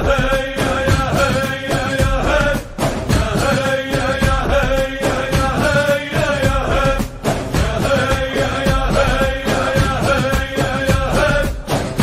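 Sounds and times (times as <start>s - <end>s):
held melody over a steady beat: 0.0s - 12.0s.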